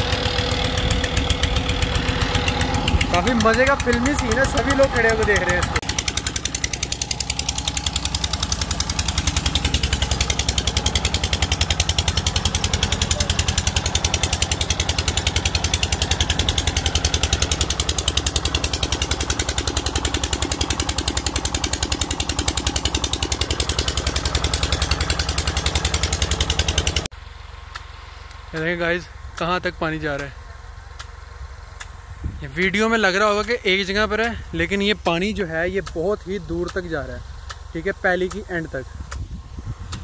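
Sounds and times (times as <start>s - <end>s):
tractor engine chugging: 0.0s - 40.0s.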